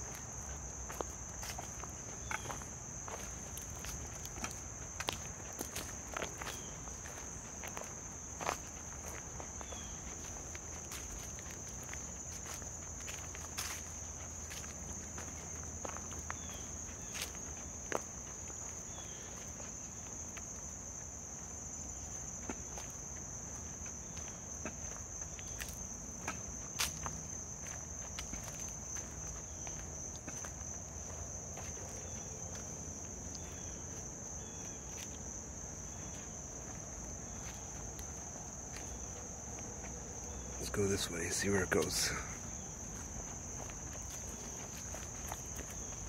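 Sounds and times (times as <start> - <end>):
footsteps crunching on dry leaves: 0.0 - 46.0
insects chorus: 0.0 - 46.0.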